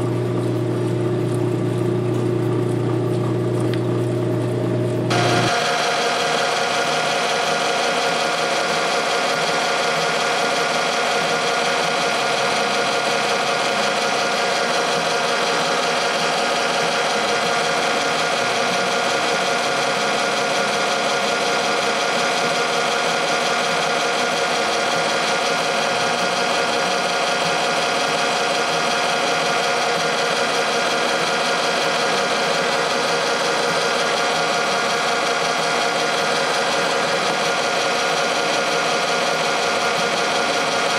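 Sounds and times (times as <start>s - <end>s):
grinding machine motor whine: 0.0s - 40.9s.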